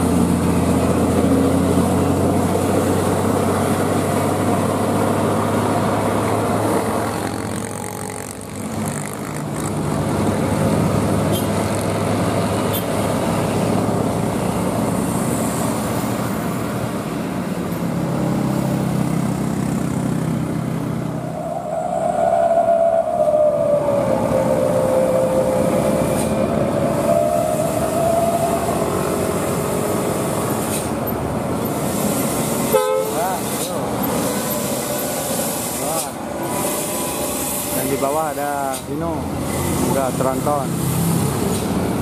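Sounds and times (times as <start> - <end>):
truck diesel engine under load: 0.0 - 42.0.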